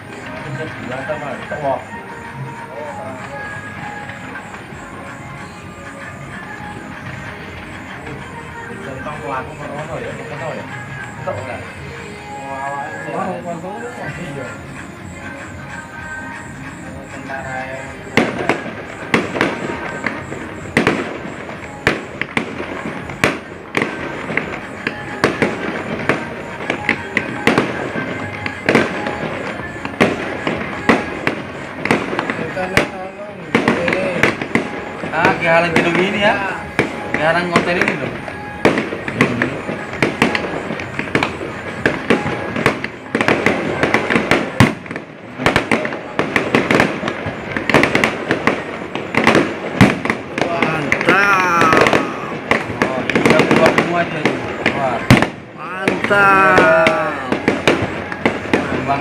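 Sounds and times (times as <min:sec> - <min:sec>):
continuous background din: 0:00.0 - 0:59.0
fireworks exploding: 0:00.0 - 0:59.0.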